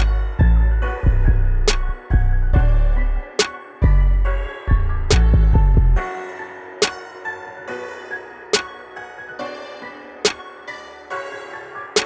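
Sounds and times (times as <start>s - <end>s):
background music with deep bass: 0.0s - 12.0s.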